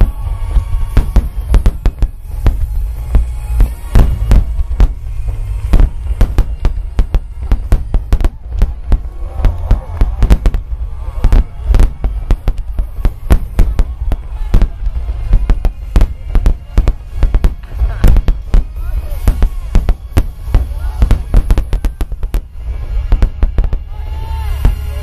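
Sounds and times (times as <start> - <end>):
fireworks booming: 0.0 - 24.9.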